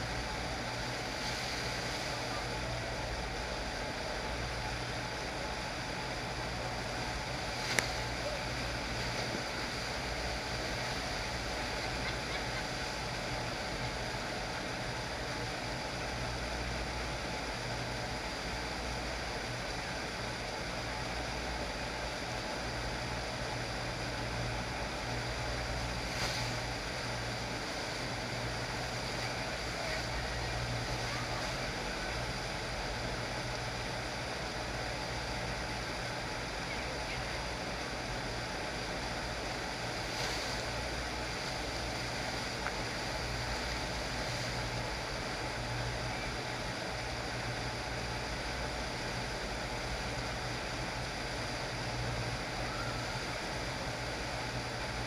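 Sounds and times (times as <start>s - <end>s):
low steady hum: 0.0s - 55.0s
rush of pumped water: 0.0s - 55.0s.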